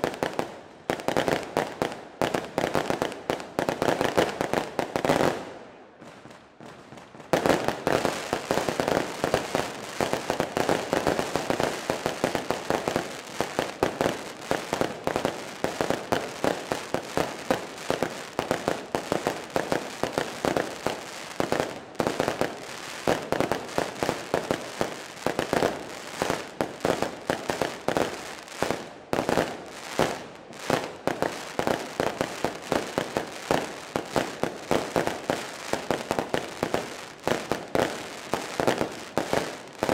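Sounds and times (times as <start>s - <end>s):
fireworks crackling pops: 0.0s - 39.9s.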